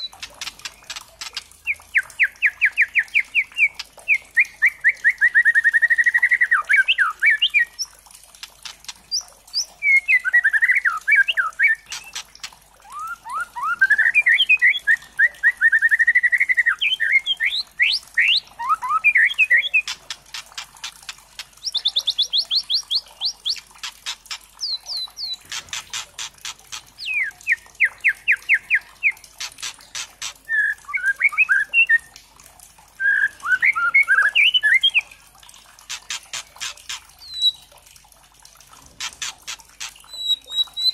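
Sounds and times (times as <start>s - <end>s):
bird singing trills and whistles: 0.0s - 7.9s, 8.6s - 32.1s, 33.0s - 35.1s, 35.9s - 37.7s, 39.0s - 40.9s.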